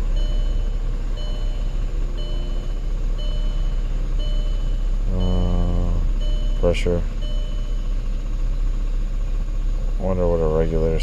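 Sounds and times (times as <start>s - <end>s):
car warning chime beeping: 0.0s - 9.2s
low rumble from car: 0.0s - 11.0s.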